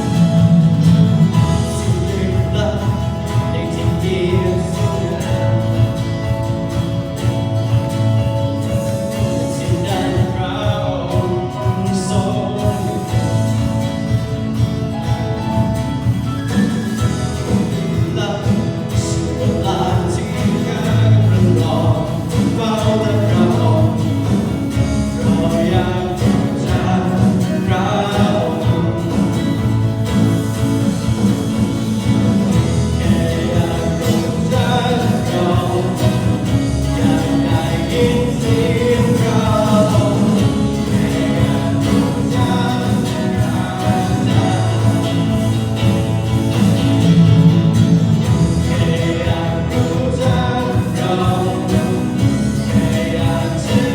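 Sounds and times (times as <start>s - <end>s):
band accompaniment with bass: 0.0s - 53.9s
voices singing worship song: 0.0s - 53.9s.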